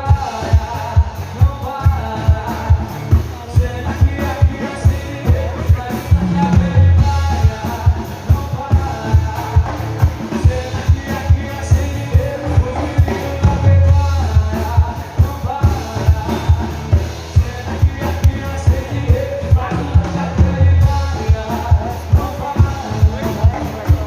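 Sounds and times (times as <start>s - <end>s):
live band music: 0.0s - 24.0s
steady drum beat: 0.0s - 24.0s.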